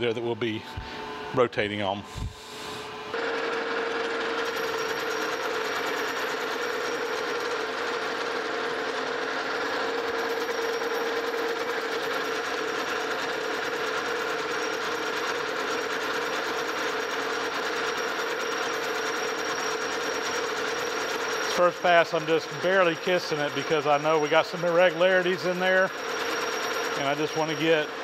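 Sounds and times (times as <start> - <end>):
metal lathe humming: 2.4 - 28.0.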